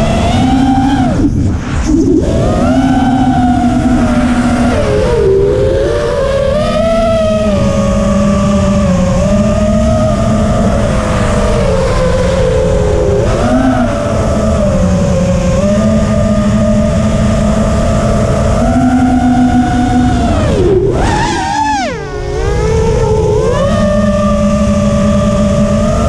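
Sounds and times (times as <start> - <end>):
drone motors whining: 0.0 - 26.0
wind rushing over microphone: 0.0 - 26.0.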